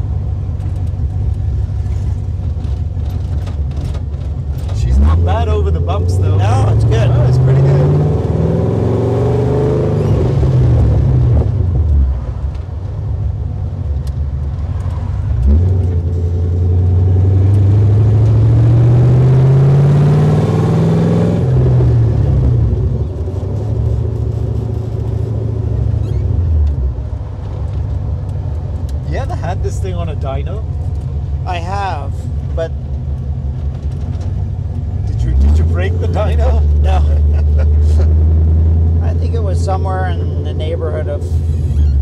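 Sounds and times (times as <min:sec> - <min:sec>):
car engine accelerating: 0:00.0 - 0:12.8, 0:13.8 - 0:42.0.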